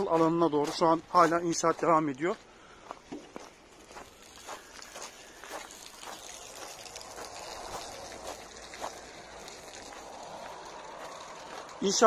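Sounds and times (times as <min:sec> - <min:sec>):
footsteps on gravel: 0:00.0 - 0:12.0.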